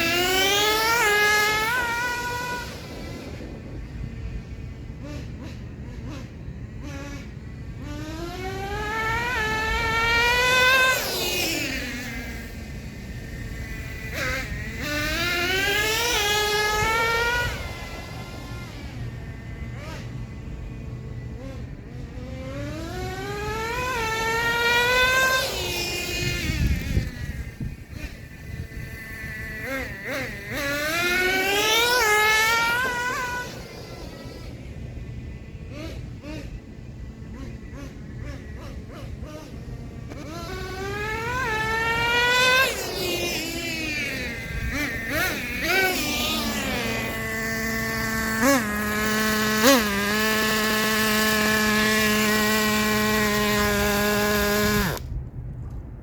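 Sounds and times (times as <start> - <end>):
nitro engine revving: 0.0 - 55.2.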